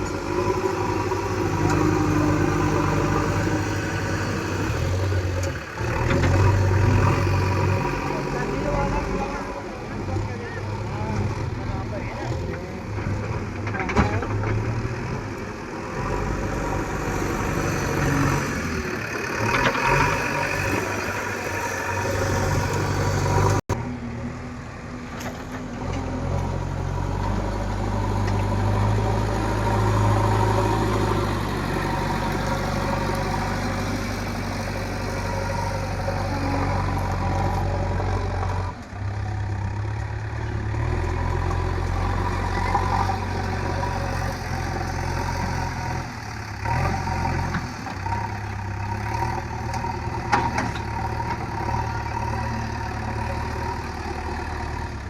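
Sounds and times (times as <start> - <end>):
digger diesel engine running: 0.0 - 55.0.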